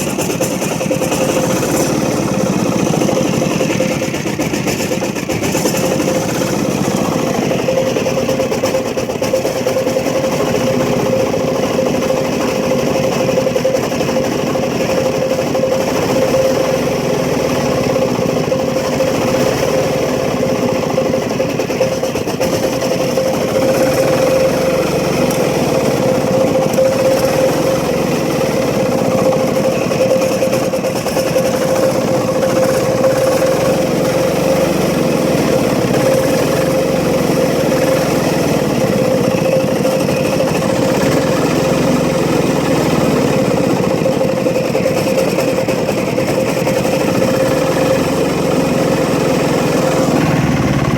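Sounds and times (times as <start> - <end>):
diesel generator running: 0.0 - 50.9.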